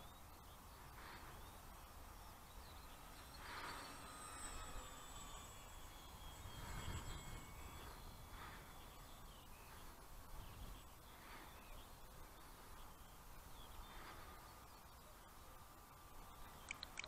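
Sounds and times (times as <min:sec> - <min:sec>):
distant bird calls: 0:00.0 - 0:17.0.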